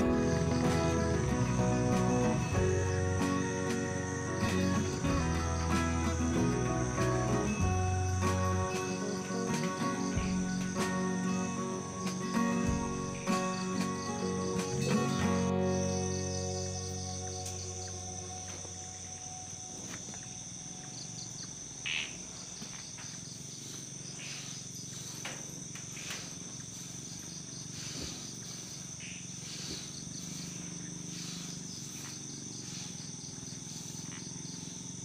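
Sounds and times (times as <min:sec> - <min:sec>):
insect chirps: 0:00.0 - 0:35.0
insect trill: 0:00.0 - 0:35.0.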